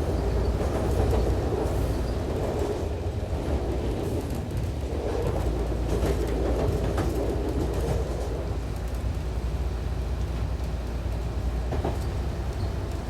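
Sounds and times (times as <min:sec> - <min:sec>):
railcar engine rumble: 0:00.0 - 0:13.0.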